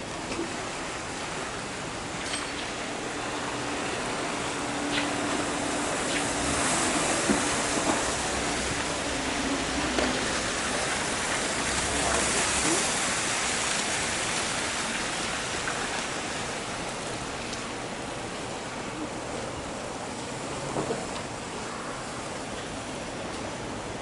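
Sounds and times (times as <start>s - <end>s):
city traffic hiss: 0.0s - 24.0s.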